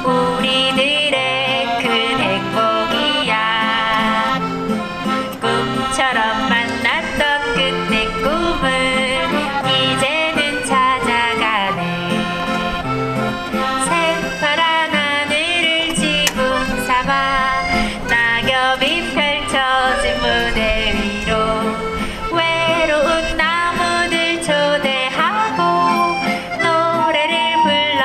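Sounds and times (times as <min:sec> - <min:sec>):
accordion playing melody: 0:00.0 - 0:28.0
band accompaniment: 0:00.0 - 0:28.0.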